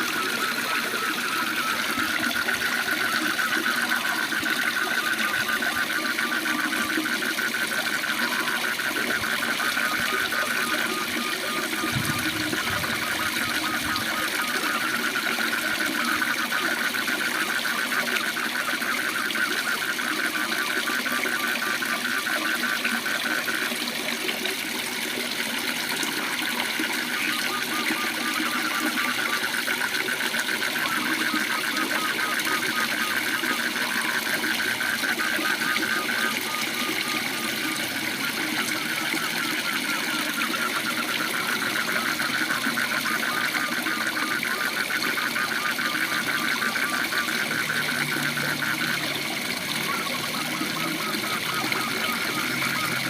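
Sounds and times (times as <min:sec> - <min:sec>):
frogs calling: 0:00.0 - 0:53.0.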